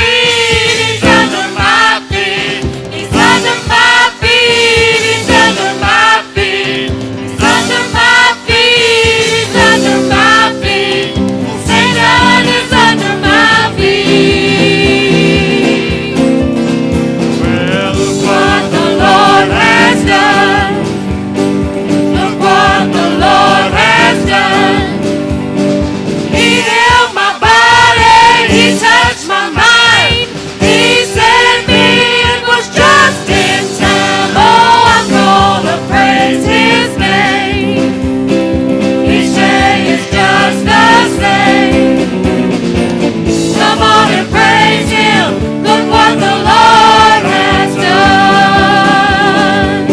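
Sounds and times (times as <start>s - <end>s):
gospel singing with instruments: 0.0s - 49.9s.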